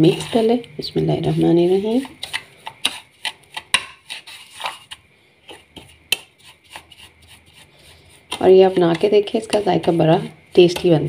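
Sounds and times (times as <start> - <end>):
metal spoon scraping a plate: 0.0 - 11.0.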